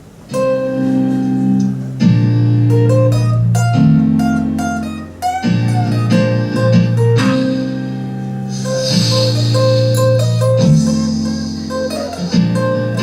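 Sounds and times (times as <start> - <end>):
held chords with melody: 0.4 - 13.0.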